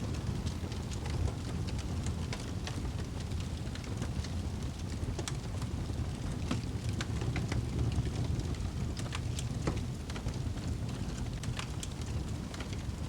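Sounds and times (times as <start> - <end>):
wood fire pops and snaps: 0.2 - 13.0.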